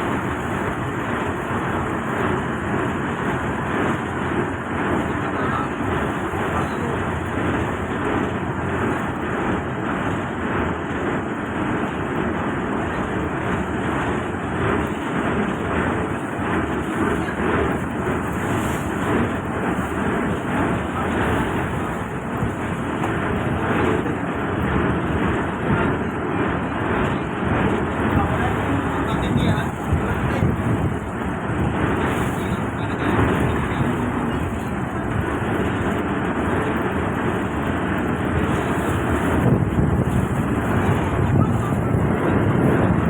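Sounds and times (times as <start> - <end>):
boat engine running: 0.0 - 43.0
water rushing: 0.0 - 43.0
wind: 0.0 - 43.0.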